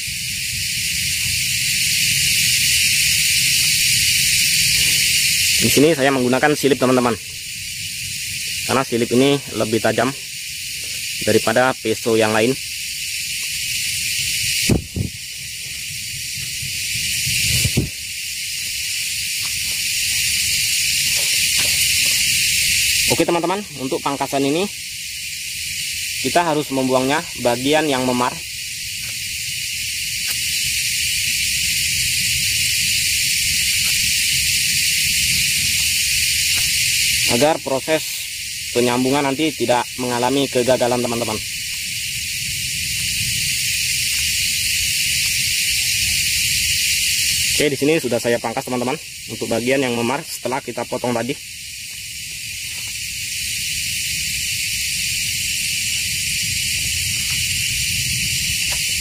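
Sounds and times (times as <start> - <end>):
insect chorus hissing: 0.0 - 59.0.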